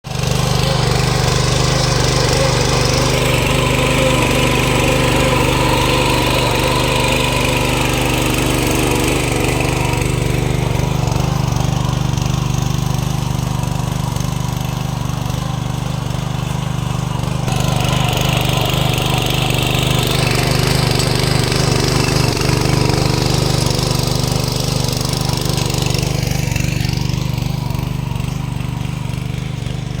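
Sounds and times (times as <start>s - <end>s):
power tiller engine running: 0.0s - 30.0s
rattling mechanical clatter: 0.1s - 30.0s.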